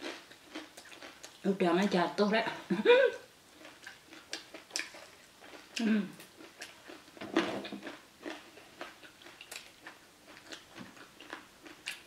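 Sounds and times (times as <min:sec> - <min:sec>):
person chewing crunchy food: 0:00.0 - 0:01.4, 0:03.5 - 0:12.0.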